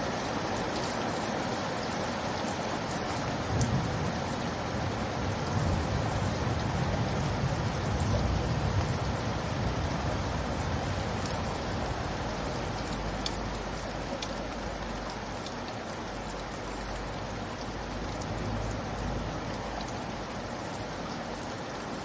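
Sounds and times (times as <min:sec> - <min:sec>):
light rain falling: 0:00.0 - 0:22.0
sharp raindrops ticking: 0:00.0 - 0:22.0.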